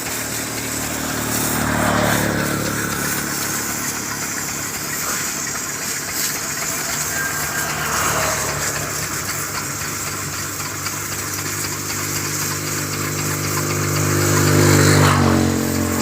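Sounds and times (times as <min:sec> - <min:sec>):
engine running: 0:00.0 - 0:16.0
water spraying: 0:00.0 - 0:16.0.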